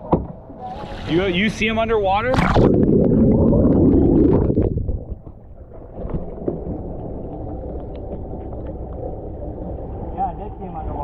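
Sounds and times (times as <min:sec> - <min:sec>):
quiet steady hum: 0:00.0 - 0:11.0
underwater rushing and bubbling: 0:00.0 - 0:11.0.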